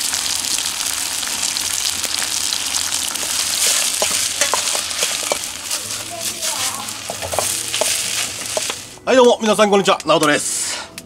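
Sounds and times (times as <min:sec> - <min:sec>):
beef sizzling in a pan: 0:00.0 - 0:09.0.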